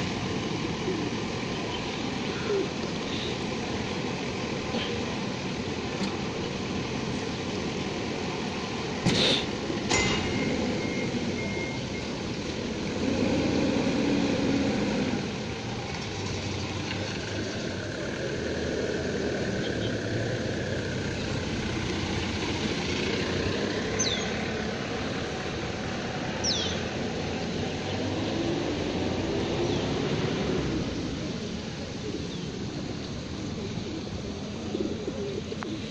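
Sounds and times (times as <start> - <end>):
low rumbling outdoor background: 0.0 - 35.9.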